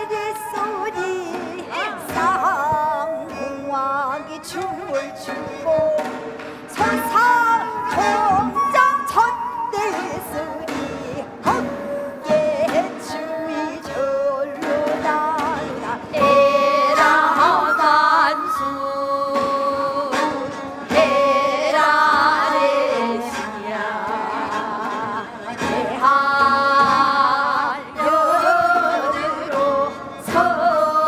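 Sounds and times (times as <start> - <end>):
instrumental accompaniment: 0.0 - 31.0
woman singing folk song: 0.0 - 31.0.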